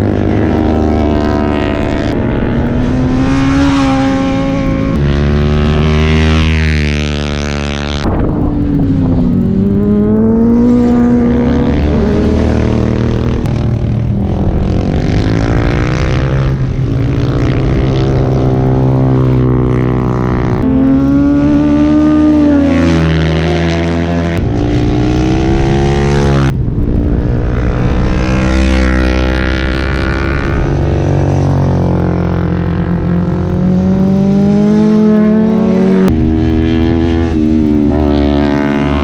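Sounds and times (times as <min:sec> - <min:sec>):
low drone: 0:00.0 - 0:39.0
motorbike engines revving: 0:00.0 - 0:39.0.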